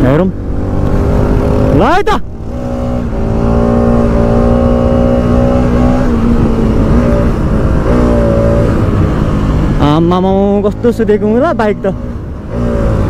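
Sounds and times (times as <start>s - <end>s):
motorcycle engine revving high: 0.0s - 13.0s.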